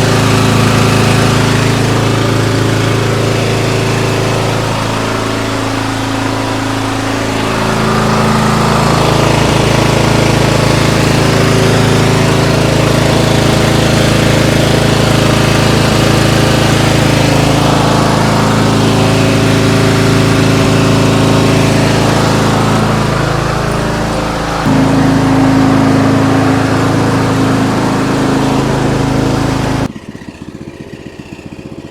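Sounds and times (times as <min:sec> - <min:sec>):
lawn tractor engine running: 0:00.0 - 0:31.9.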